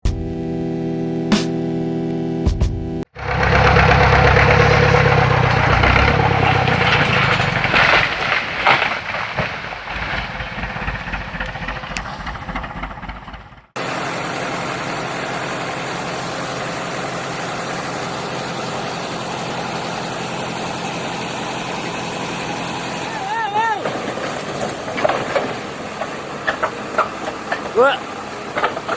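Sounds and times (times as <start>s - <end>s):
heavy machinery engine running: 3.0s - 28.9s.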